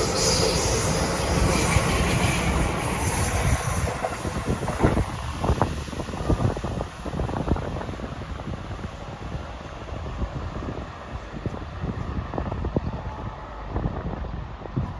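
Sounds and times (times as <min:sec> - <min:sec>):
electric train on rails: 0:00.0 - 0:14.9.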